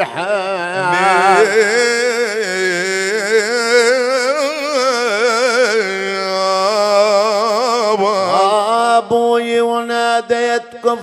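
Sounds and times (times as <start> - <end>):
melodic vocal line with vibrato: 0.0 - 11.0.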